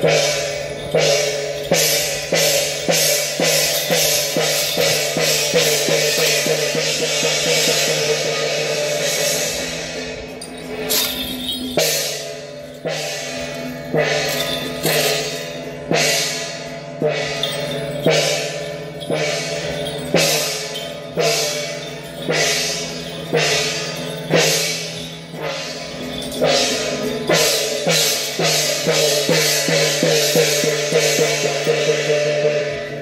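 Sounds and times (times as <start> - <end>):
cymbals crashing: 0.0 - 33.0
drum beating: 0.0 - 33.0.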